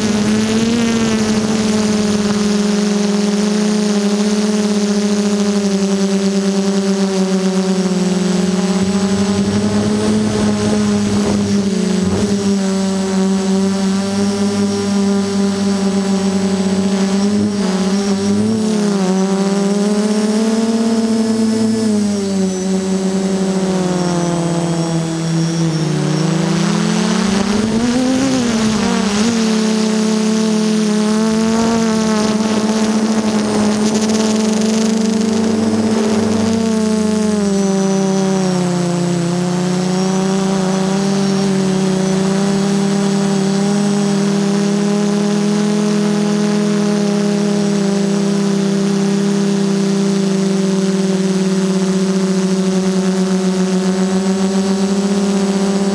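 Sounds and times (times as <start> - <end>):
quadcopter buzzing hum: 0.0 - 55.9.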